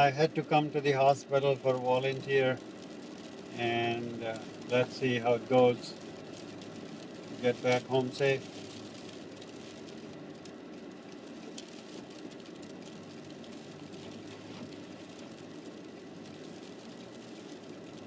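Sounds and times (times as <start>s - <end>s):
car engine and fan hum: 0.0s - 18.0s.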